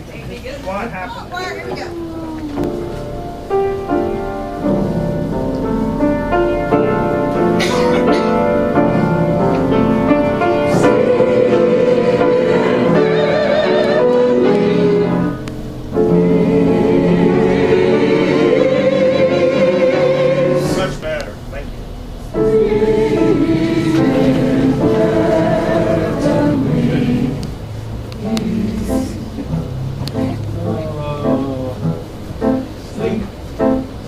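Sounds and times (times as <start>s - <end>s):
choir singing: 2.5s - 21.0s, 22.3s - 33.9s.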